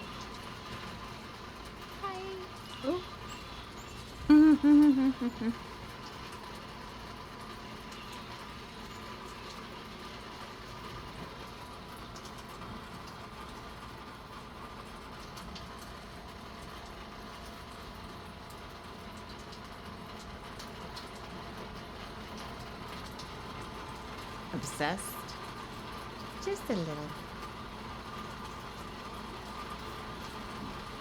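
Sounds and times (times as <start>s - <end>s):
faint drips: 0.0s - 31.0s
light rain hissing: 0.0s - 31.0s.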